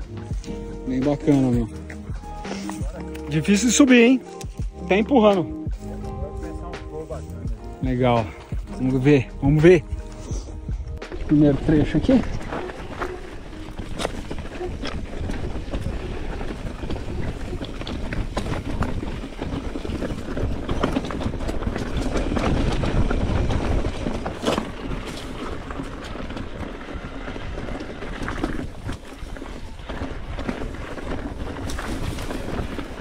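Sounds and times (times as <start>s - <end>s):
bike rattling: 0.0s - 33.0s
tyres rolling over rock and gravel: 0.0s - 33.0s
wind noise on microphone: 4.4s - 33.0s.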